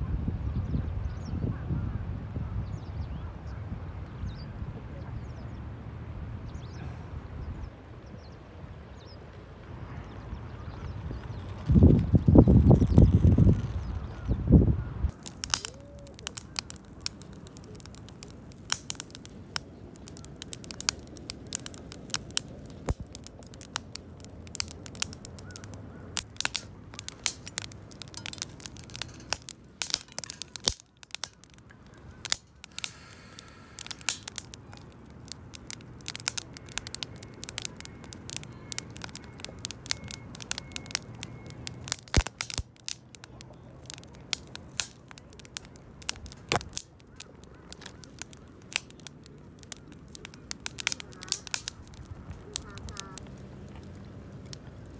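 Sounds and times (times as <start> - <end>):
campfire crackling and popping: 8.9 - 54.9.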